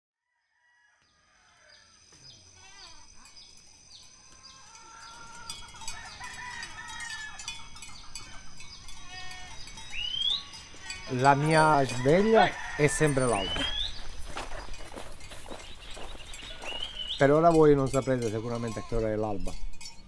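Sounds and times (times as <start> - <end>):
goats calling: 2.2 - 19.5
goat bells clinking: 2.2 - 20.0.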